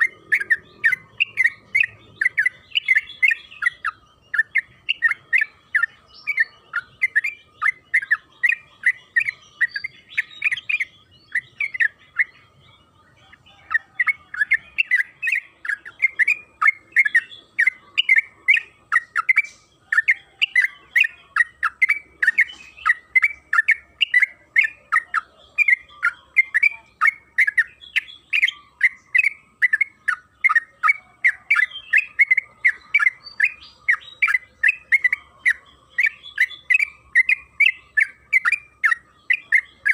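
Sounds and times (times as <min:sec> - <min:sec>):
bulbul singing repeated notes: 0:00.0 - 0:39.9.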